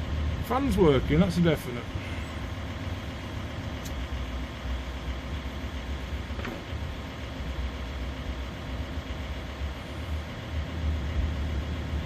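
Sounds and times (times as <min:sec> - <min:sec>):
engine idling low rumble: 0:00.0 - 0:12.0.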